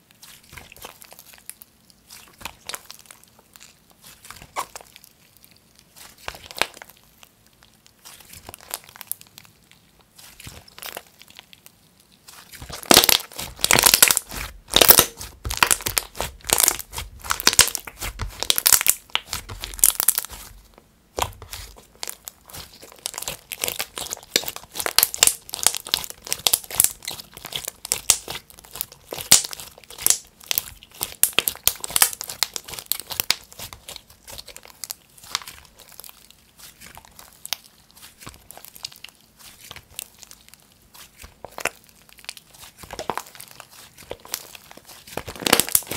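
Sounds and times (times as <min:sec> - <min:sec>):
slime squelching and crackling: 0:00.0 - 0:45.9.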